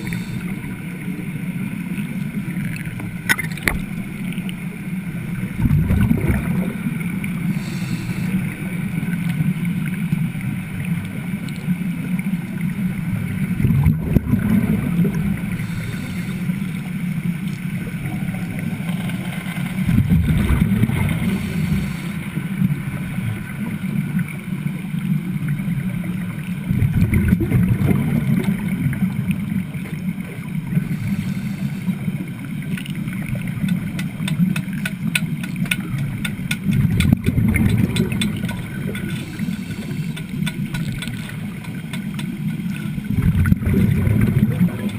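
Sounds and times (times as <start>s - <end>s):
underwater welding rumbling and bubbling: 0.0s - 44.9s.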